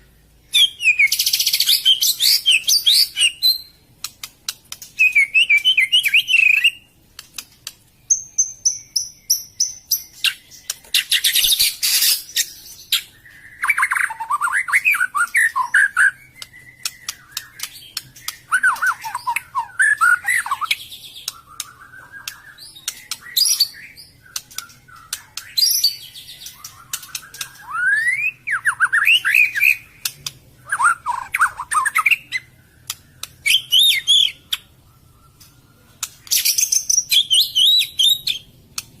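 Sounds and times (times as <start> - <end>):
bird singing whistled phrases: 0.5 - 3.8, 5.0 - 6.9, 8.1 - 38.5
sharp clicking bird notes: 0.9 - 39.0.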